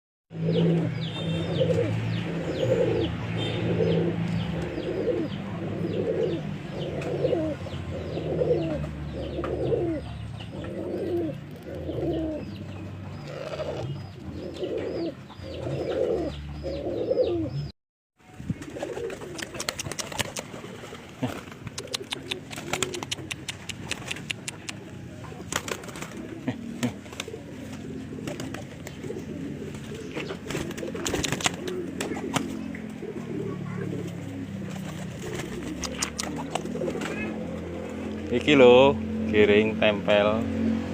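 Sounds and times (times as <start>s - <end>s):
pigeons cooing: 0.3s - 17.7s, 18.6s - 39.3s.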